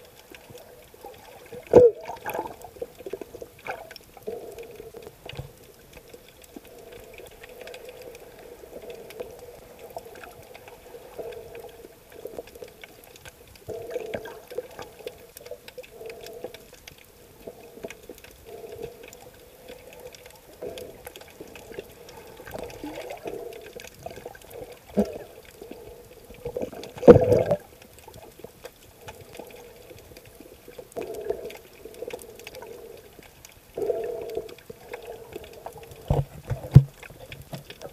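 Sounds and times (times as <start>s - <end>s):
water bubbling underwater: 0.0s - 37.9s.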